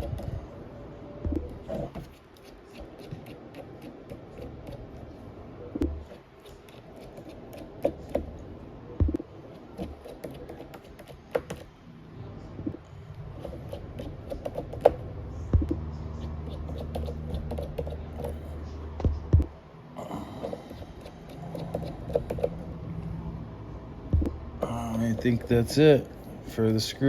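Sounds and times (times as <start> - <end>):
low steady hum: 0.0 - 10.1, 11.8 - 27.0.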